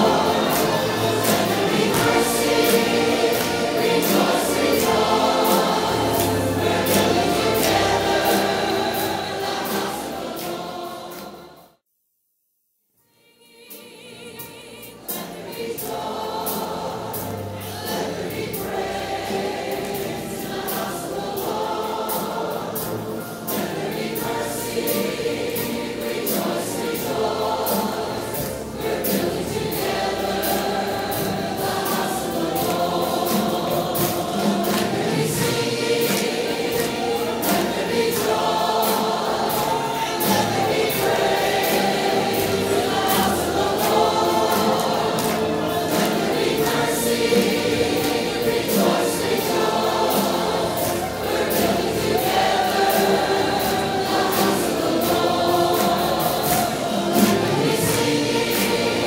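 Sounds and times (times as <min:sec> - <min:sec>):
gospel choir singing: 0:00.0 - 0:11.8, 0:13.1 - 0:59.0.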